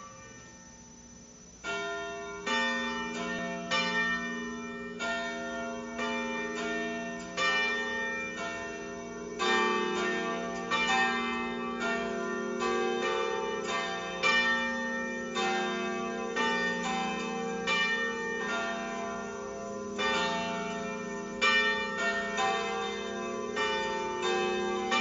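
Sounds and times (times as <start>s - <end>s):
church bells pealing: 1.6s - 25.0s.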